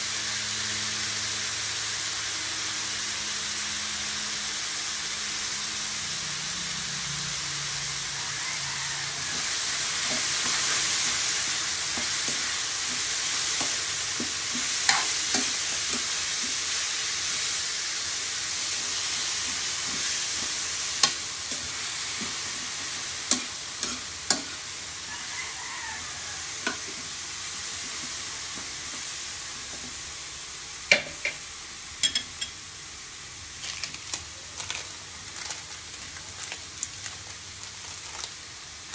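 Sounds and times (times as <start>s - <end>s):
vegetables sizzling in a wok: 0.0s - 38.9s.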